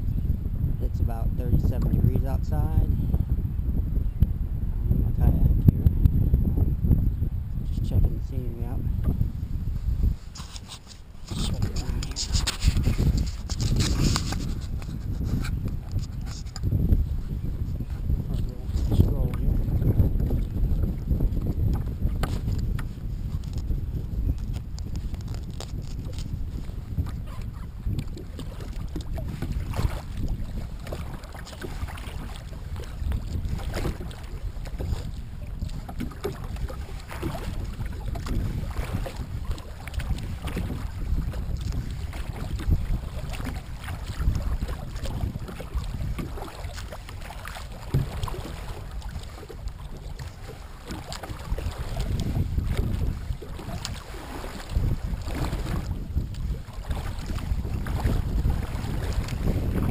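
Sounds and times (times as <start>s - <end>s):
waves slapping hull: 0.0s - 59.9s
wind noise on microphone: 0.0s - 59.9s
paddle blades dipping: 8.1s - 59.9s.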